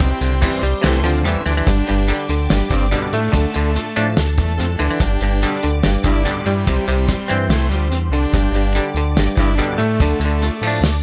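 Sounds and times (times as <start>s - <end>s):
music with bass pulses: 0.0s - 11.0s.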